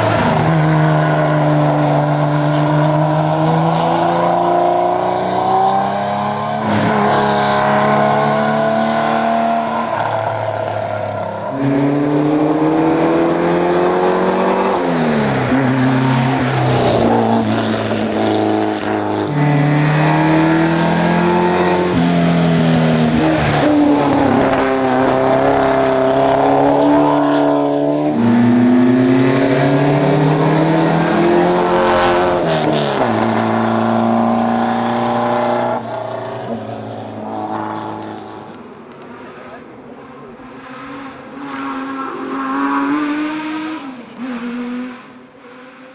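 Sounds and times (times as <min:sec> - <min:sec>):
rally car engine accelerating: 0:00.0 - 0:38.6, 0:40.5 - 0:45.9.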